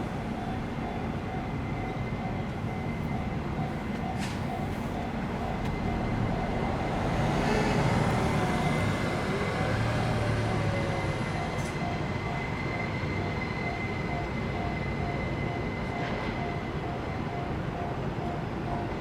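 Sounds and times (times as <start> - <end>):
level crossing alarm ringing: 0.2 - 19.0.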